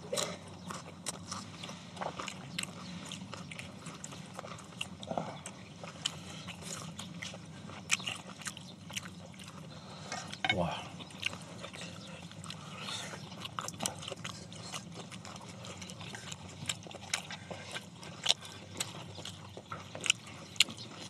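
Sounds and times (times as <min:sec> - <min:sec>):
chewing and crunching lettuce: 0:00.0 - 0:21.0.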